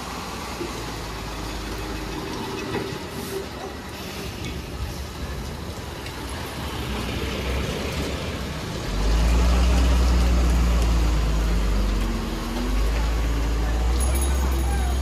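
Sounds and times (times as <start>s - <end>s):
dump truck diesel engine accelerating: 0.0s - 15.0s.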